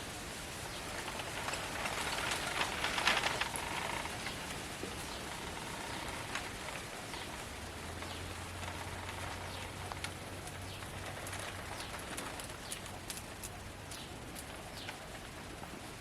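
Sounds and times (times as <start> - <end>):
birds chirping: 0.6 - 15.2.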